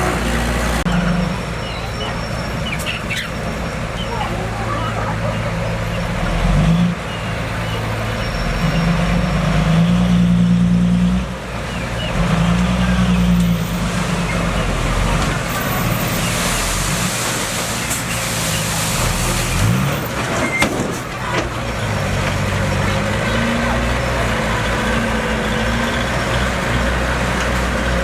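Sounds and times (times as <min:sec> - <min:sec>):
heavy machinery diesel engine: 0:00.0 - 0:28.0.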